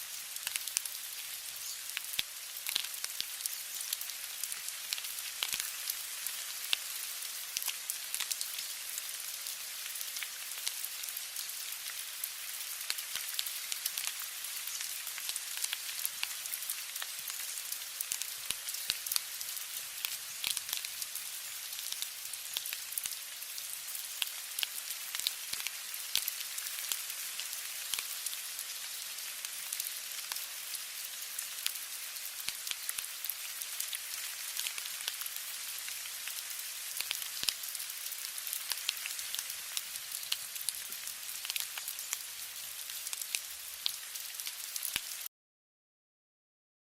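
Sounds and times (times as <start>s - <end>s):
rain falling: 0.0s - 45.3s.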